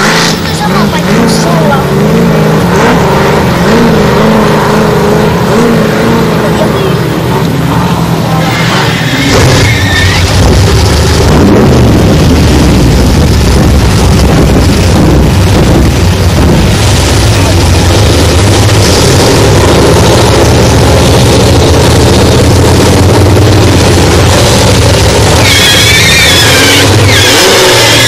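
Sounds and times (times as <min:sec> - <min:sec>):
buggy engine revving: 0:00.0 - 0:28.0.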